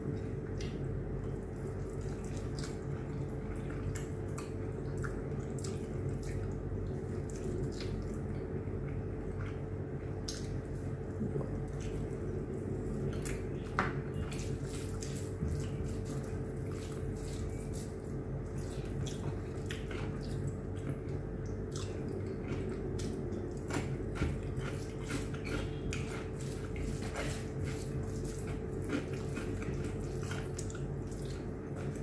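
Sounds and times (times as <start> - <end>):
steady low hum: 0.0 - 32.0
wet chewing and lip-smacking: 0.1 - 13.6, 14.2 - 32.0.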